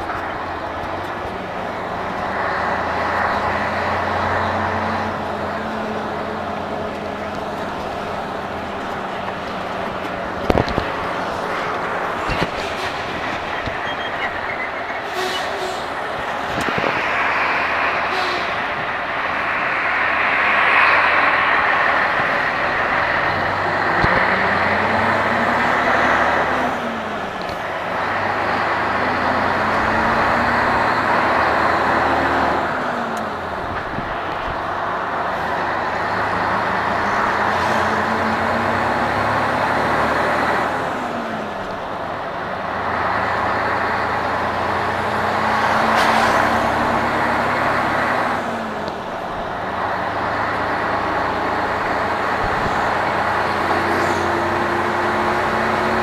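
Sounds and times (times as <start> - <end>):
truck diesel engine accelerating: 0.0 - 56.0.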